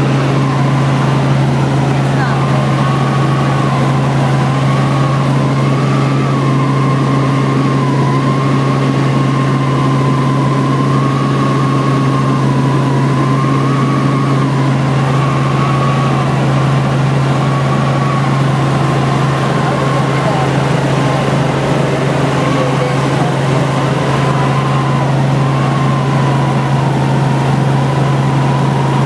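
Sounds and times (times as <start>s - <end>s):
helicopter drone from cabin: 0.0s - 29.0s.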